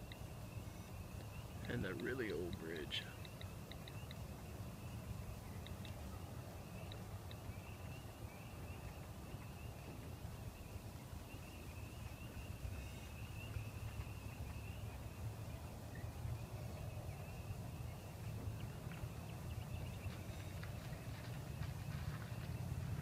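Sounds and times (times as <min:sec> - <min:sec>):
distant frogs calling: 0:00.0 - 0:23.0.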